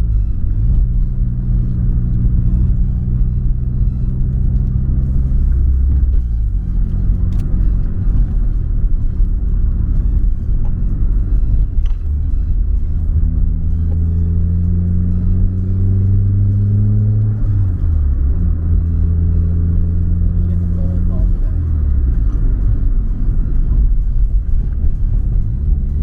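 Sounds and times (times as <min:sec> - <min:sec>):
car engine running: 0:00.0 - 0:26.0
road rumble: 0:00.0 - 0:26.0.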